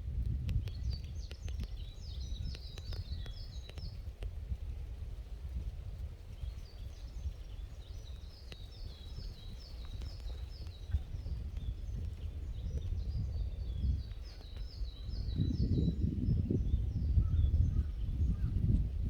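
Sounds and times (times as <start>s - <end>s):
low wind rumble: 0.0s - 19.0s
small birds singing: 0.1s - 19.0s.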